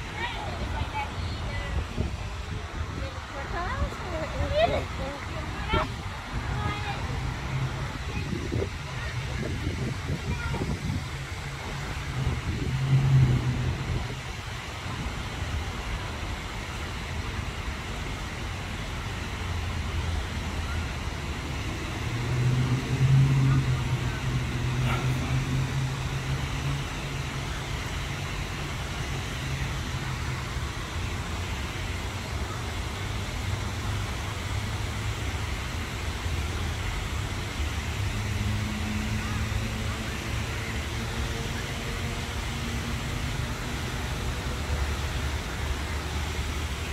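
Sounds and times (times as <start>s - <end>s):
passing vehicle engine hum: 0.0s - 15.9s, 18.4s - 46.9s
road traffic noise: 0.0s - 46.9s.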